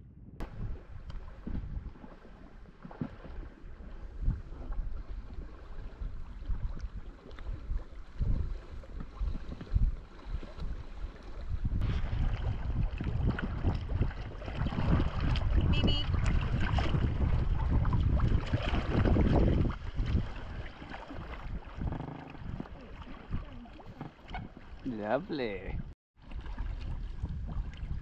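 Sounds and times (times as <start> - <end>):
wind buffeting microphone: 0.0 - 28.0
water lapping and splashing: 0.4 - 28.0.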